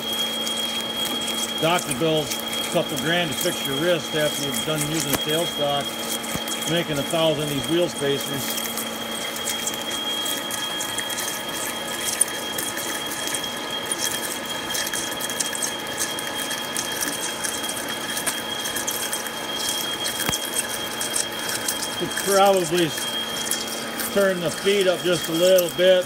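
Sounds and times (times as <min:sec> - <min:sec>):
lathe drilling high whine: 0:00.0 - 0:26.0
small crackles: 0:00.0 - 0:26.0.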